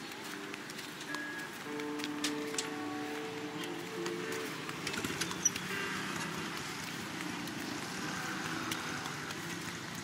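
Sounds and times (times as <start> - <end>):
light ticks: 0.0 - 10.0
traffic on wet street: 0.0 - 10.0.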